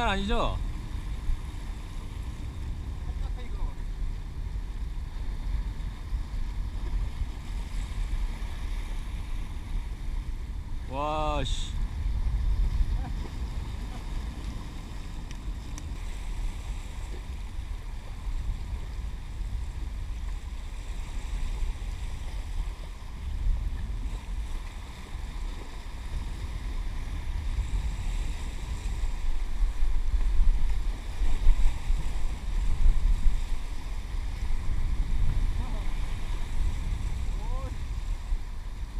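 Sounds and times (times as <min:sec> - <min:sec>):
choppy water against rocks: 0:00.0 - 0:38.9
wind rumbling on microphone: 0:00.0 - 0:38.9.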